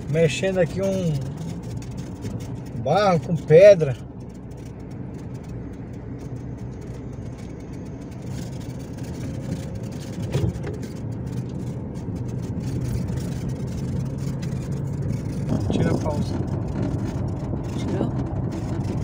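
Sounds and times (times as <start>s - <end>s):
car driving over dirt road: 0.0s - 19.0s
car engine running: 0.0s - 19.0s.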